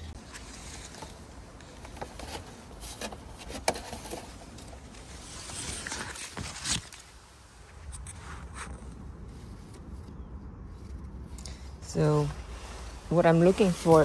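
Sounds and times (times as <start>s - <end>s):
leaves and plastic rustling: 0.0s - 14.0s.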